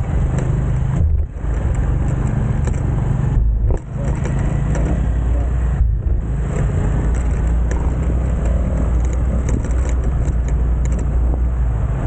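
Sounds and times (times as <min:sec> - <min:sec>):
motorcycle engine rumble: 0:00.0 - 0:12.0
wind noise on microphone: 0:00.0 - 0:12.0.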